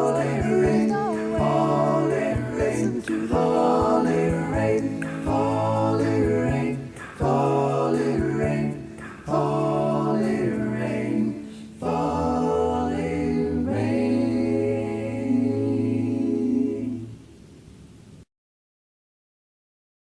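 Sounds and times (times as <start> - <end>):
a cappella gospel singing: 0.0 - 17.5.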